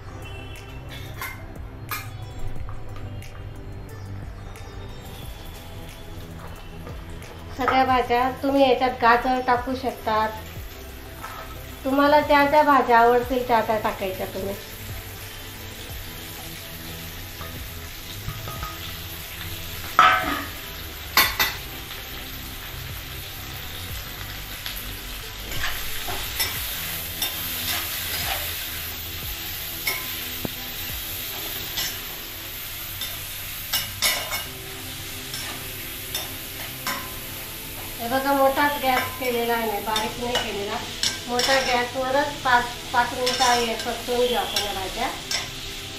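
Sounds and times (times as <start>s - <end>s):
vegetables sizzling in hot oil: 0.0s - 45.9s.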